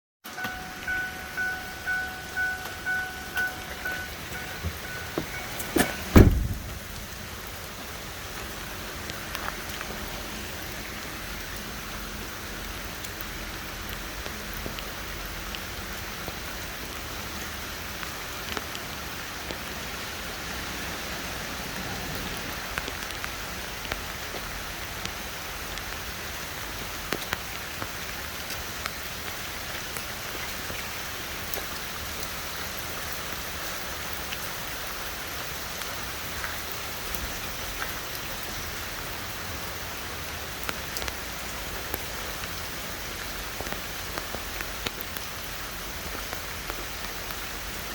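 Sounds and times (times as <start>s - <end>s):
steady rain falling: 0.2s - 47.9s.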